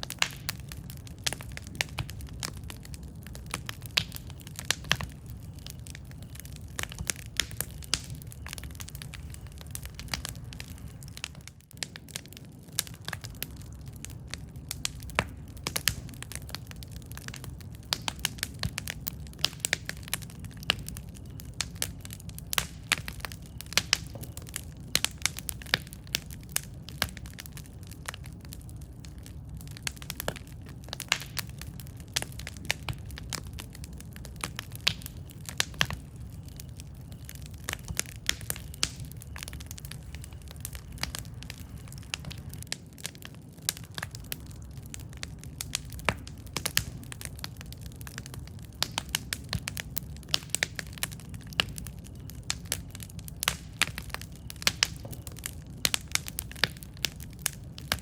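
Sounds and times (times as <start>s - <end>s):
low rumble of flames: 0.0s - 58.0s
wood crackling and popping: 0.0s - 58.0s.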